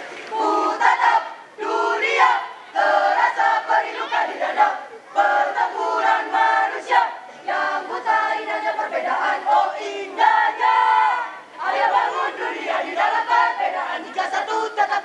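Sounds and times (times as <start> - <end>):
group chanting and singing: 0.0 - 15.0.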